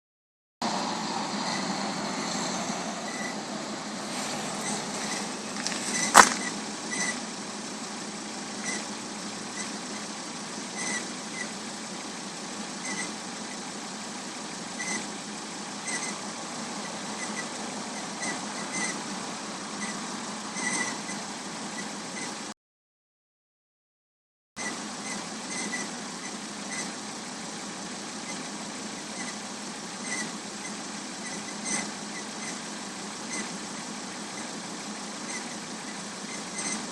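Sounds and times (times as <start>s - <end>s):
car engine running: 0.6s - 22.5s, 24.6s - 36.9s.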